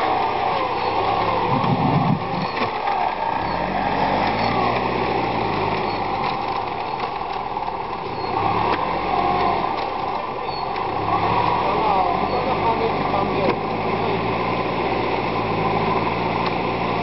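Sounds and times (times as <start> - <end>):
engine revving under load: 0.0 - 17.0.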